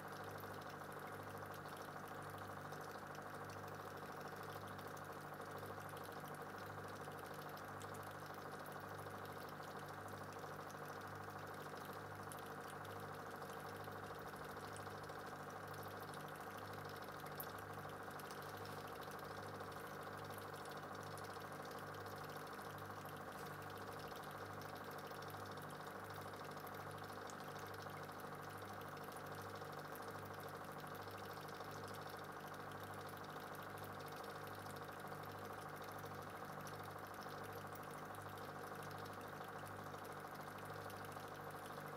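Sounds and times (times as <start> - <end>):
aquarium air pump humming: 0.0 - 41.9.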